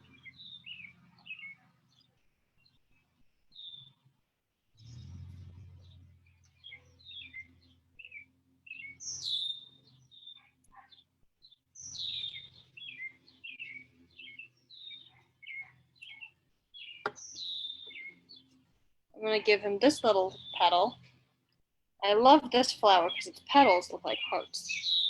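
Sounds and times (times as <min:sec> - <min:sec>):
songbirds chirping and singing: 0:00.0 - 0:04.1, 0:04.8 - 0:21.3, 0:22.0 - 0:25.0.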